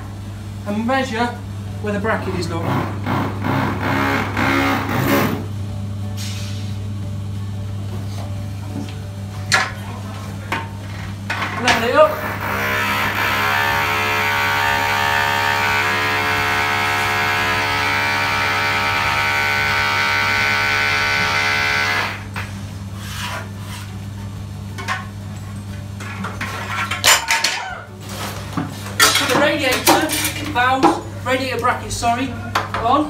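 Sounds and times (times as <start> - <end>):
steady humming drone: 0.0 - 32.8.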